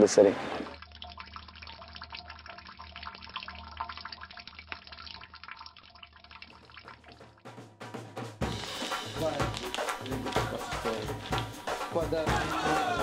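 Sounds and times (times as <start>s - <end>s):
water dripping from tap: 0.7s - 7.5s, 8.5s - 13.0s.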